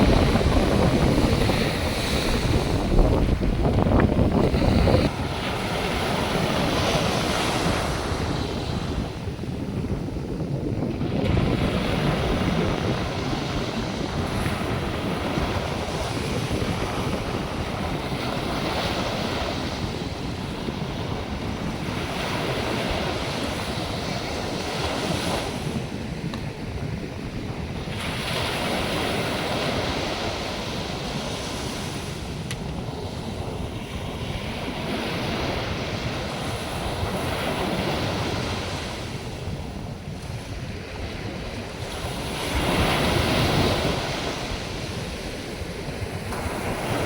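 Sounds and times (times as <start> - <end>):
surf washing onto beach: 0.0 - 47.0
wind buffeting microphone: 0.0 - 47.0.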